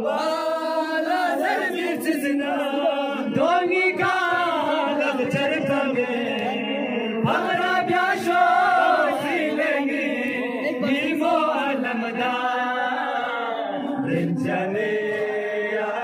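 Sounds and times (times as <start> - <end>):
men chanting together: 0.0 - 16.0.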